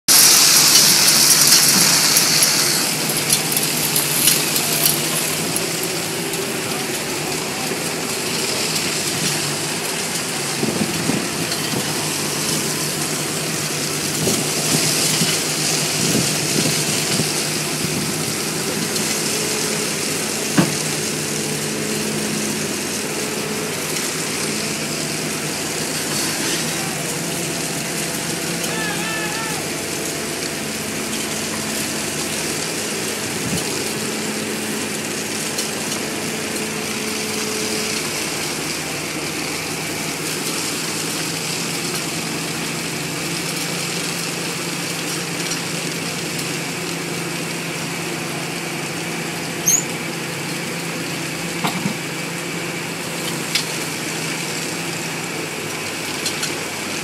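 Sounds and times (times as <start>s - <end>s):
excavator diesel engine running: 0.1s - 57.0s
hydraulics working: 0.1s - 57.0s.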